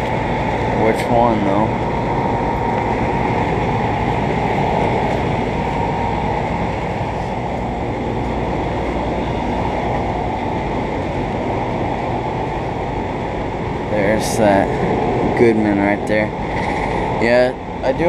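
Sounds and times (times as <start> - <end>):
air conditioner units whirring: 0.0 - 18.0
low hum: 0.0 - 18.0.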